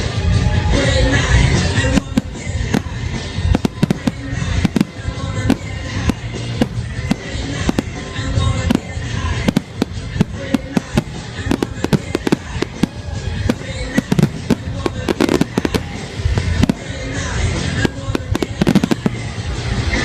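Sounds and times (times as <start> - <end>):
fireworks bangs and cracks: 0.0 - 20.0
steady rumble: 1.7 - 19.9.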